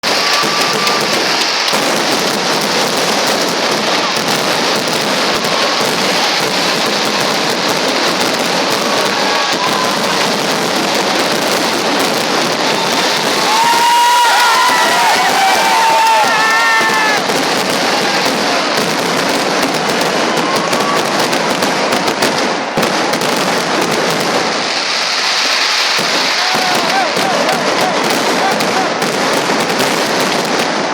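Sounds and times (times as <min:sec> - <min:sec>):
firework whistle: 0:00.0 - 0:30.9
fireworks crackling: 0:00.0 - 0:30.9.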